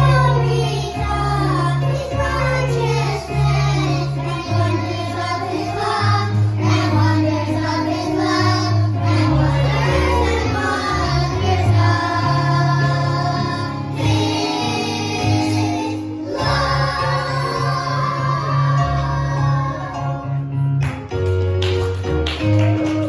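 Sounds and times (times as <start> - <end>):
voices singing: 0.0 - 20.4
sustained bass notes: 0.0 - 21.4
instrumental accompaniment: 0.0 - 23.0.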